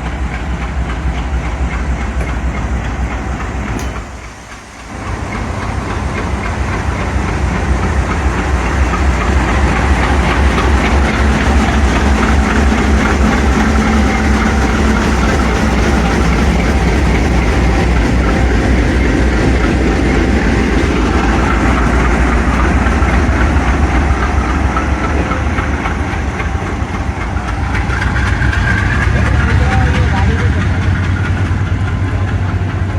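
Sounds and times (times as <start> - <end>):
locomotive diesel engine throbbing: 0.0 - 32.9.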